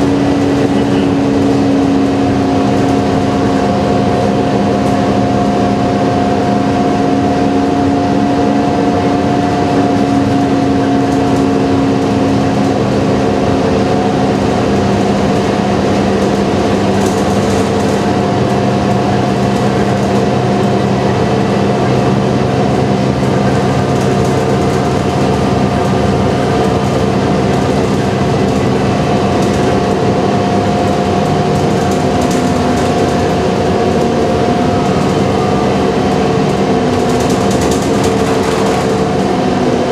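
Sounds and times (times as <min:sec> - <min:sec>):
bus engine whine: 0:00.0 - 0:39.9
road and tyre noise: 0:00.0 - 0:39.9.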